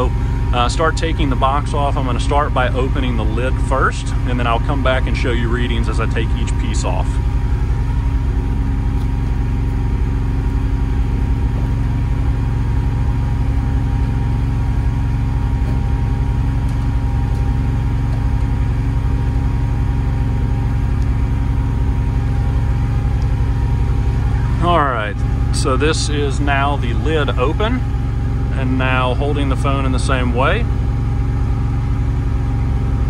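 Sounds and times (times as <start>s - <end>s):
generator humming: 0.0s - 33.0s.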